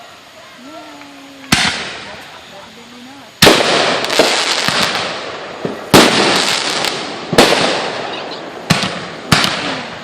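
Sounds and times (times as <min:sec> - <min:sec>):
fireworks crackle: 0:00.0 - 0:10.0
fireworks bangs: 0:01.4 - 0:10.0.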